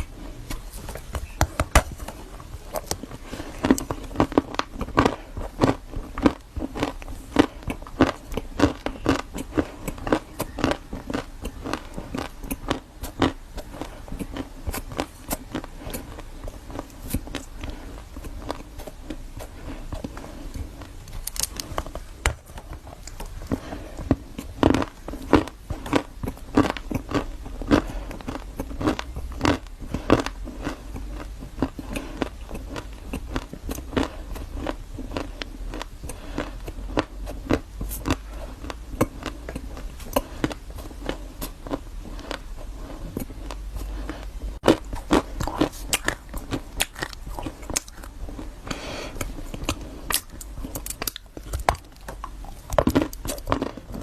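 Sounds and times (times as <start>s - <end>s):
person chewing crunchy dessert: 0.0s - 54.0s.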